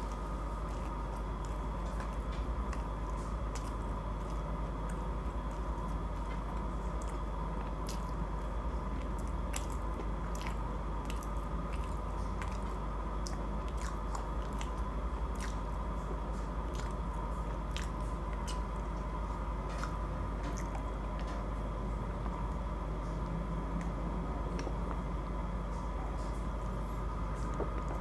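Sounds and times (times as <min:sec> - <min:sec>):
person chewing food: 0:00.0 - 0:28.0
steady background hum: 0:00.0 - 0:28.0.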